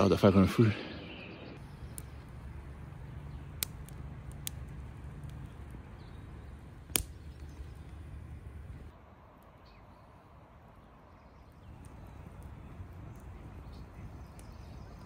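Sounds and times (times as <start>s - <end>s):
low steady rumble: 1.4s - 15.0s
campfire crackling and popping: 1.6s - 15.0s.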